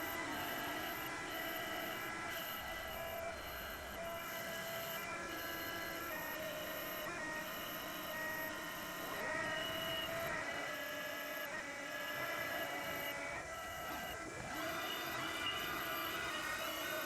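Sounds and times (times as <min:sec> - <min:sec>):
lathe motors whining: 0:00.0 - 0:17.0.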